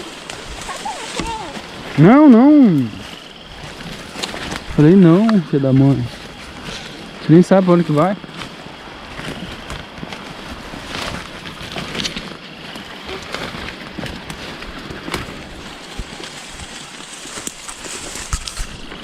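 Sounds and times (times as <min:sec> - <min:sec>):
footsteps through undergrowth: 0:00.0 - 0:19.0
leaves and twigs crackling: 0:00.0 - 0:19.0.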